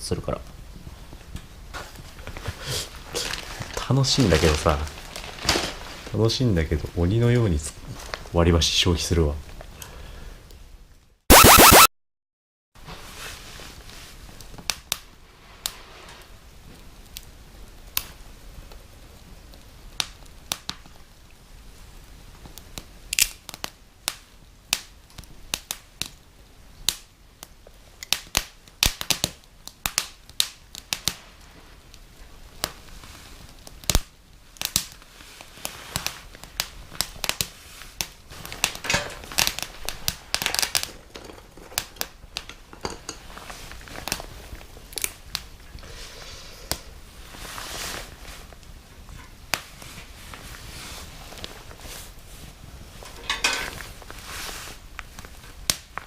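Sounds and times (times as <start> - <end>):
small wood fire crackling: 0.0 - 11.2, 12.8 - 56.0.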